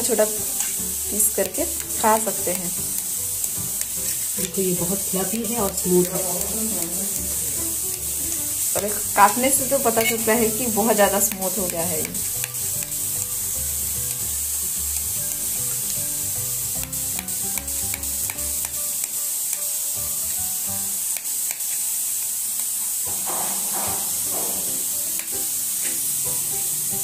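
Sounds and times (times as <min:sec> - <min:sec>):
background music: 0:00.0 - 0:21.1, 0:23.1 - 0:27.0
steady high hiss: 0:00.0 - 0:27.0.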